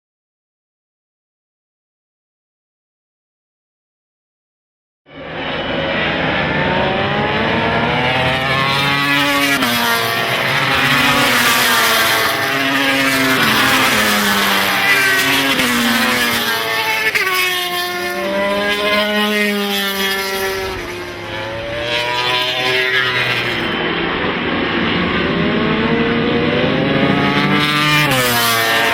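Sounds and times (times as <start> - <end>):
race motorbikes passing at speed: 5.1 - 28.9.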